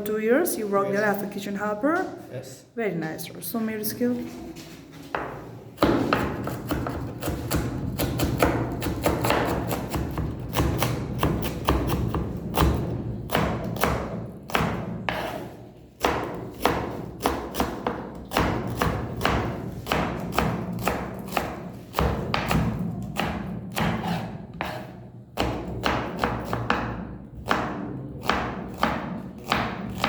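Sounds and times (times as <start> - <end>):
knife chopping on wooden board: 5.2 - 30.0.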